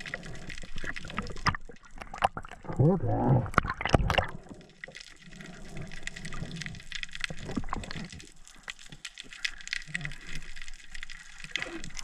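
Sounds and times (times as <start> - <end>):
water sloshing and rushing: 0.0 - 12.0.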